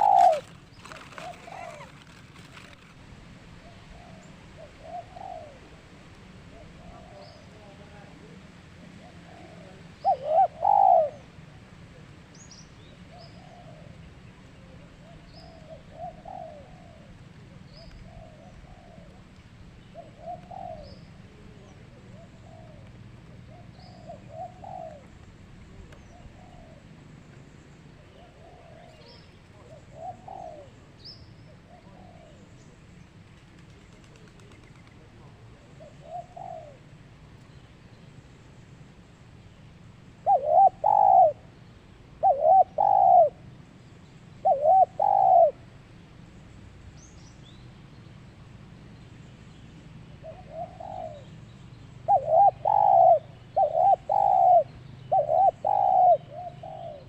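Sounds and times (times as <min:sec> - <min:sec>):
dove cooing: 0:00.0 - 0:12.2, 0:13.0 - 0:27.0, 0:27.8 - 0:37.2, 0:40.2 - 0:43.5, 0:44.4 - 0:45.9, 0:50.1 - 0:51.4, 0:52.0 - 0:57.0.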